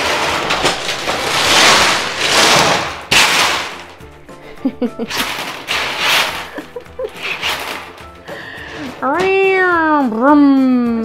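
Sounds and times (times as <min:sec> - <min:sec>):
jelly beans pouring: 0:00.0 - 0:09.0.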